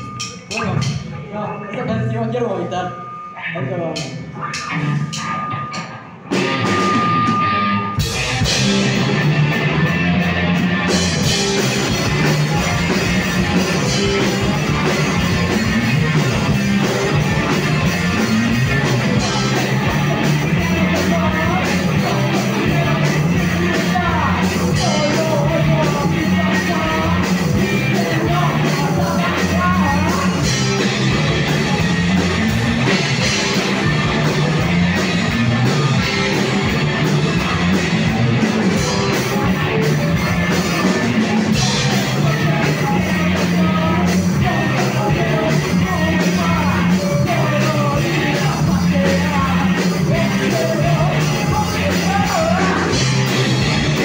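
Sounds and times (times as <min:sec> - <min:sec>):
drum kit: 0:00.0 - 0:01.4, 0:02.5 - 0:54.0
electric guitars: 0:00.0 - 0:54.0.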